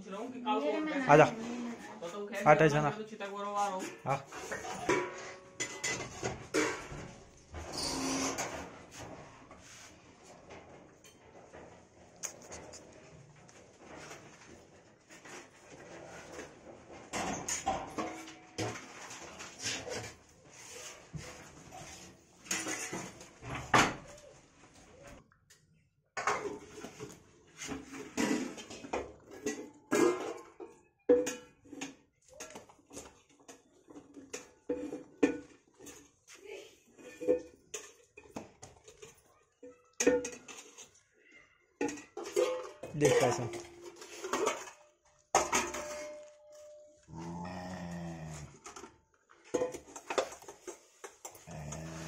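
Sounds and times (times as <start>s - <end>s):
household knocks and clinks: 3.6s - 24.2s, 26.2s - 36.2s, 37.0s - 41.1s, 41.8s - 52.0s.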